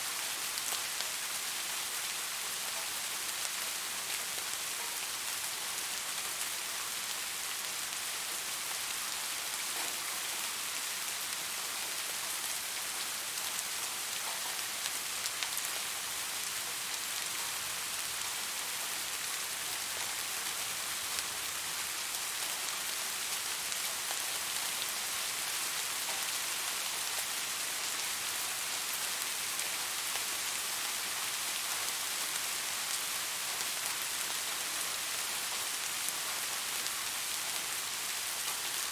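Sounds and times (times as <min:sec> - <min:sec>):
soft rain hissing: 0:00.0 - 0:38.9.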